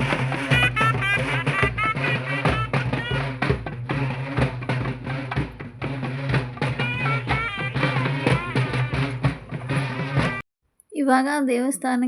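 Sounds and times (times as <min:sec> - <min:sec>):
fast dense drumming: 0:00.0 - 0:10.4.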